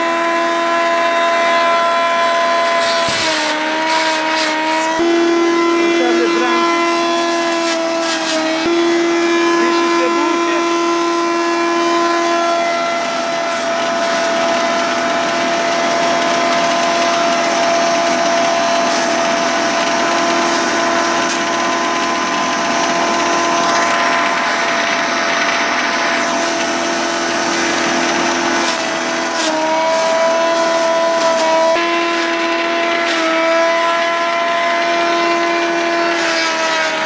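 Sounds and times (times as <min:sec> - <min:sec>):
rough grinding noise: 0:00.0 - 0:37.0
shredder motor whine: 0:00.0 - 0:37.0.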